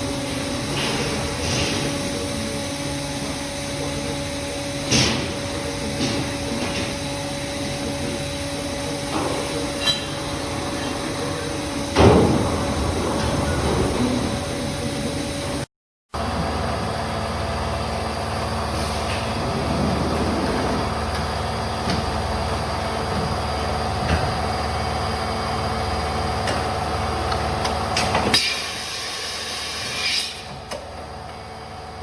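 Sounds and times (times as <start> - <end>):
shop machinery running: 0.0 - 32.0.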